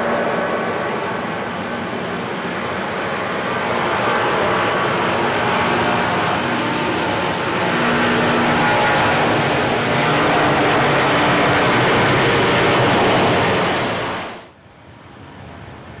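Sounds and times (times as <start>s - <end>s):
jet engines roaring: 0.0s - 14.6s.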